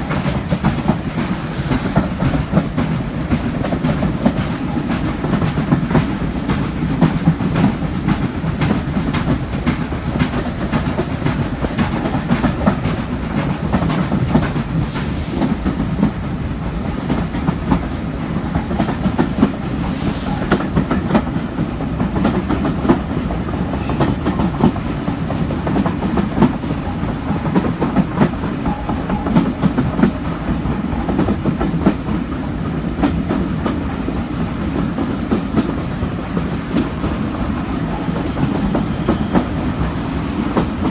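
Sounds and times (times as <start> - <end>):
train carriages rumbling: 0.0 - 40.9.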